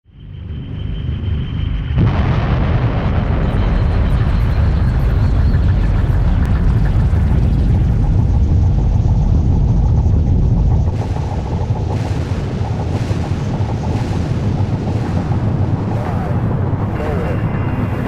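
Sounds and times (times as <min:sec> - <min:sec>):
explosions rumbling roar: 0:02.0 - 0:18.0.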